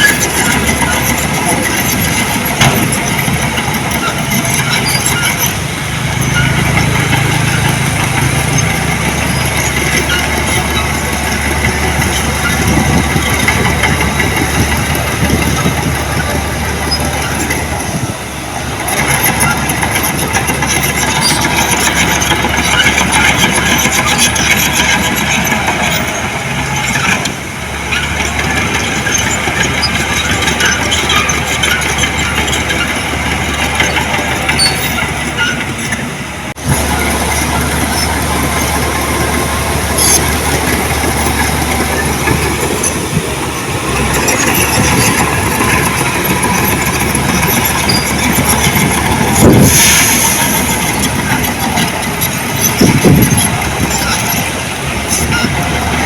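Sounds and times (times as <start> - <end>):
diesel engine of heavy machinery: 0.0 - 56.0.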